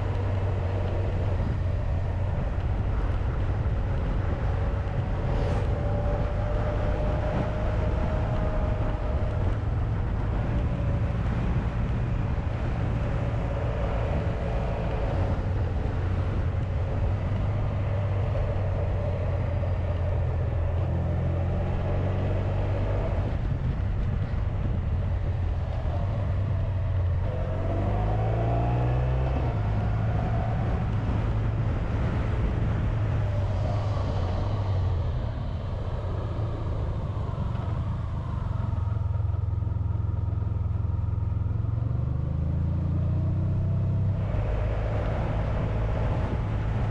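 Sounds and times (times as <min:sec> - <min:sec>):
wind noise: 0:00.0 - 0:46.9.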